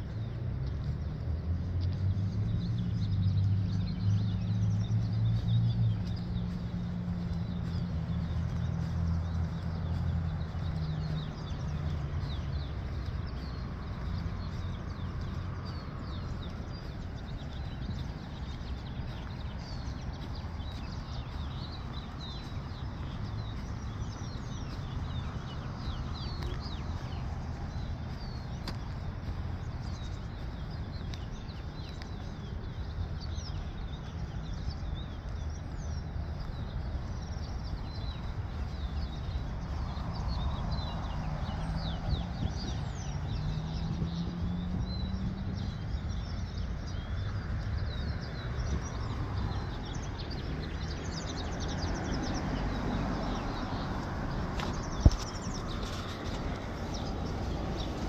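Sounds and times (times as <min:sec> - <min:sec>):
songbirds chirping and singing: 0:00.0 - 0:58.0
steady low rumble: 0:00.0 - 0:58.0.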